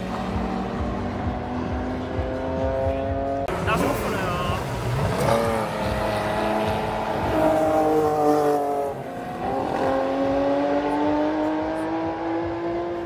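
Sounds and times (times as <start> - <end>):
race car engines at speed: 0.0 - 13.0.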